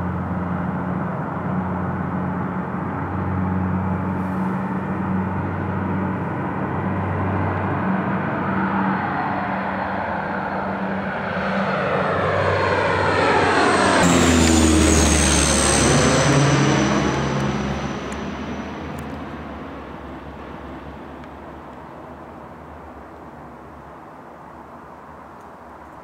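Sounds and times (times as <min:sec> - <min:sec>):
turboprop airliner passing: 0:00.0 - 0:25.8.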